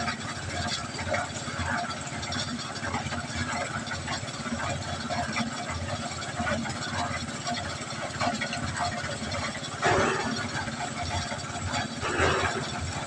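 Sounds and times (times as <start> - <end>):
cement mixer rattling: 0.0 - 13.0.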